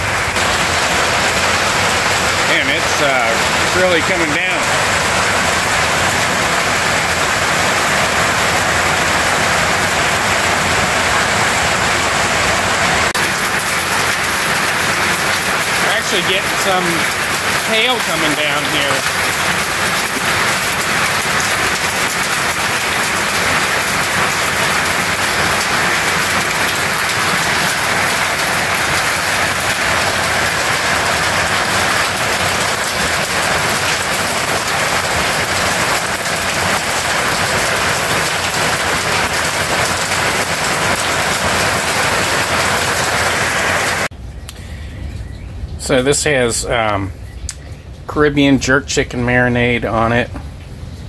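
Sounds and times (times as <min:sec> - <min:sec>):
heavy rain and hail on concrete: 0:00.0 - 0:44.1.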